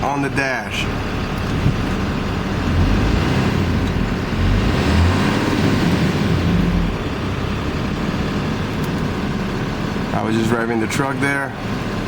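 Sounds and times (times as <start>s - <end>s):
diesel engine revving: 0.0s - 12.0s.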